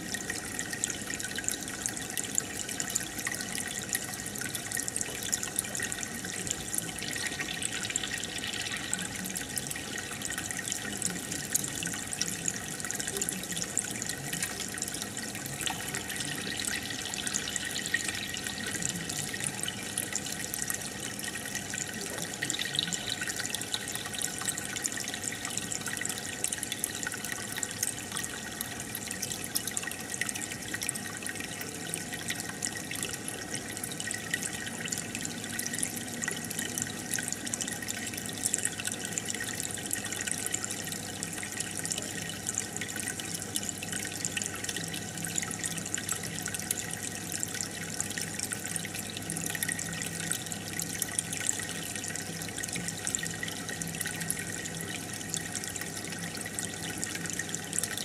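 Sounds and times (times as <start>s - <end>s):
faint pump hum: 0.0s - 58.0s
water bubbling and trickling: 0.0s - 58.0s.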